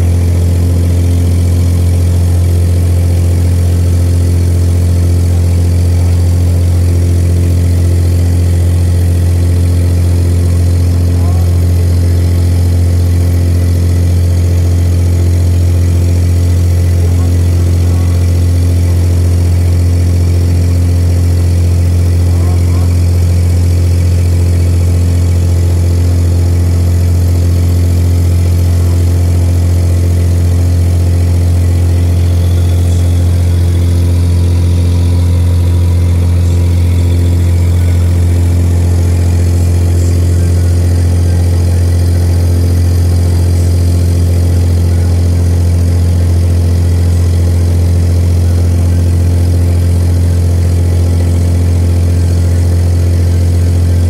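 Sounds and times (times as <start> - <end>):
loud steady low hum: 0.0 - 54.0.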